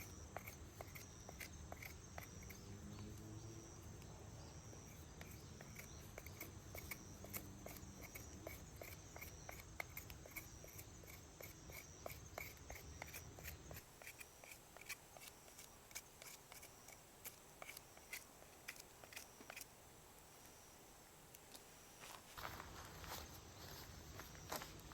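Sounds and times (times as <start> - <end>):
faint insect chirping: 0.0 - 24.9.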